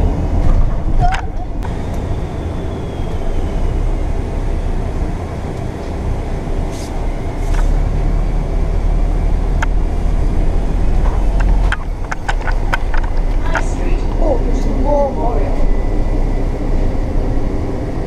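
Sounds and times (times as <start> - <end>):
bus engine and road noise: 0.0 - 18.0.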